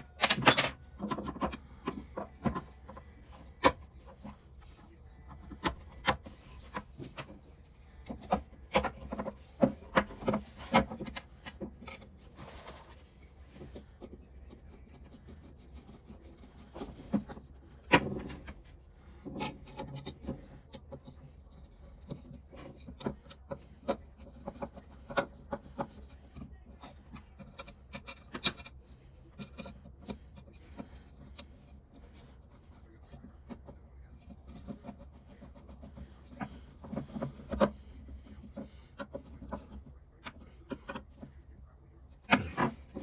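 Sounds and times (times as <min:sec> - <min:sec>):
soft rubbing and scraping: 0:00.0 - 0:43.0.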